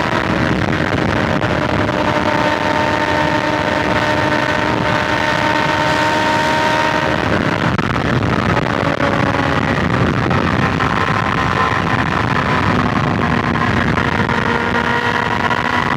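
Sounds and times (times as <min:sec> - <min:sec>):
motorcycle engine cruising: 0:00.0 - 0:15.9
wind and road noise: 0:00.0 - 0:15.9.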